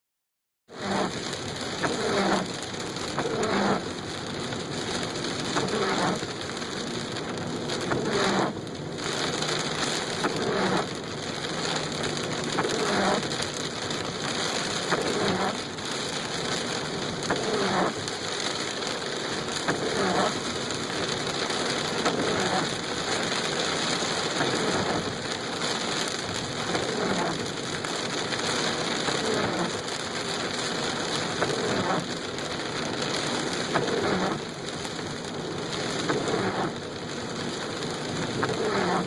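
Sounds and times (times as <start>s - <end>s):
heavy rain pouring: 0.7s - 39.0s.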